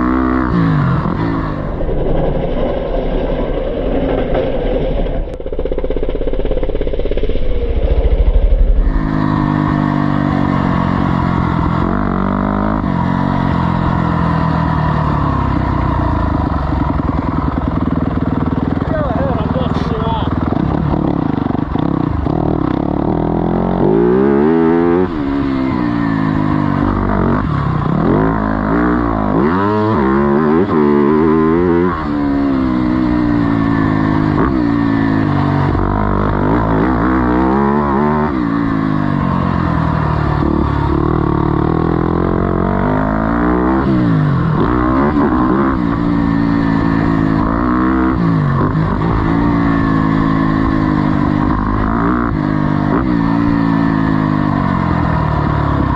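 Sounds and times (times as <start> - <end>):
motocross engine revving: 0.0 - 5.3, 6.2 - 55.9.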